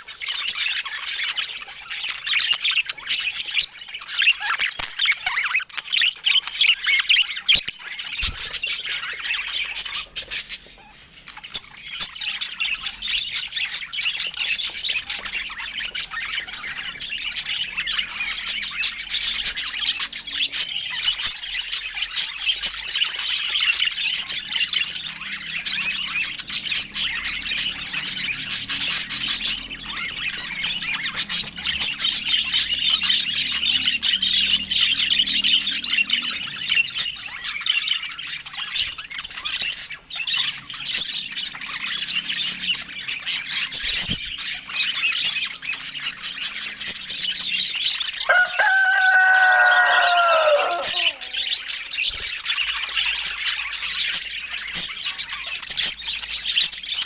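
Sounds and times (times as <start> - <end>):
budgerigars chattering and squawking: 0.0 - 57.0.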